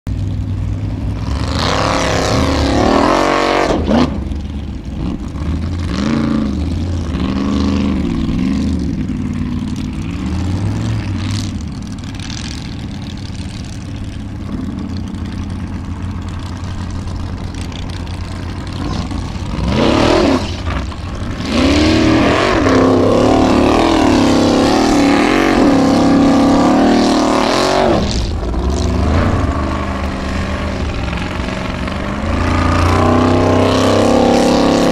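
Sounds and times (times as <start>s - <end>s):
buggy engine revving: 0.1s - 34.9s.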